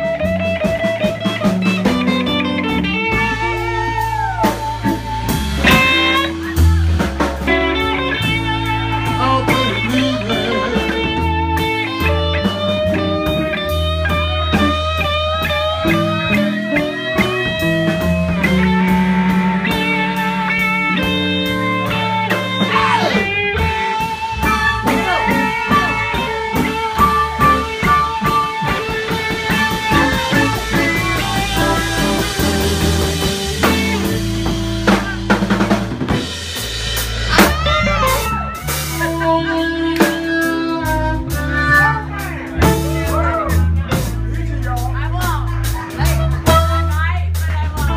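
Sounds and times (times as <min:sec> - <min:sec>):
bass and drums: 0:00.0 - 0:47.9
blues guitar lead: 0:00.0 - 0:47.9.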